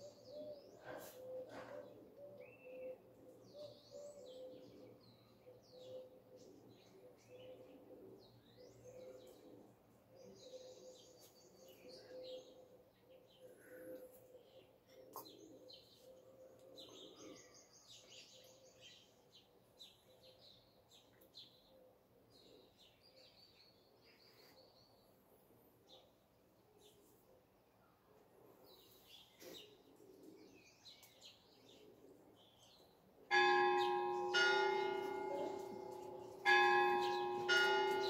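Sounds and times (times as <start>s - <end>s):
songbirds chirping and trilling: 0.0s - 38.0s.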